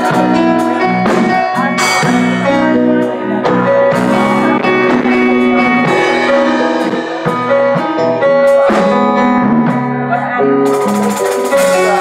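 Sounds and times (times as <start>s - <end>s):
drum kit and cymbals: 0.0s - 12.0s
electric guitar: 0.0s - 12.0s
keyboard chords: 0.0s - 12.0s.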